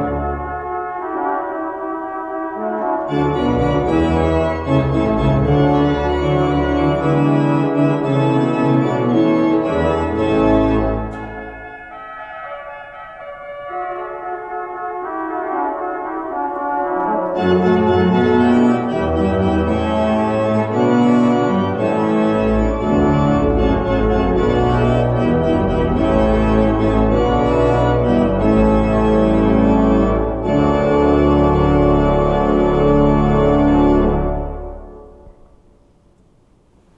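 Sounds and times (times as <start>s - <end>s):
deep organ pedal bass notes: 0.0s - 35.3s
pipe organ chords: 0.0s - 35.8s.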